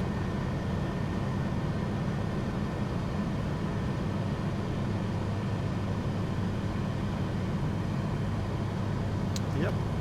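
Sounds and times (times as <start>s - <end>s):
faint steady whine: 0.0s - 10.0s
jet engine hum: 0.0s - 10.0s.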